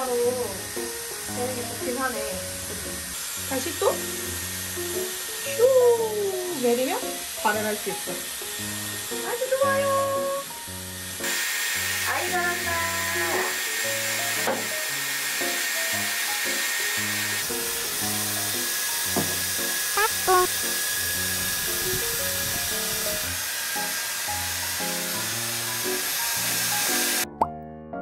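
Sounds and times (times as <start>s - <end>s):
hair dryer blowing: 0.0s - 27.3s
light background music: 0.0s - 28.0s.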